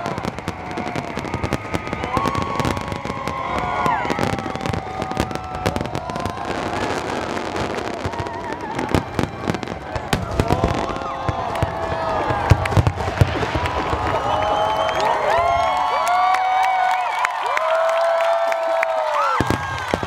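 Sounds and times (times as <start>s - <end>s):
fireworks bangs and crackling: 0.0s - 16.4s, 18.8s - 20.0s.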